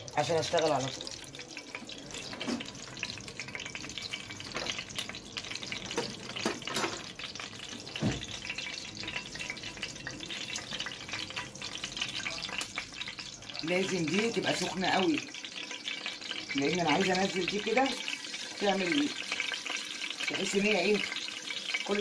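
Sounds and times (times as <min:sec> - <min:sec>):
oil sizzling in a pot: 0:00.0 - 0:22.0.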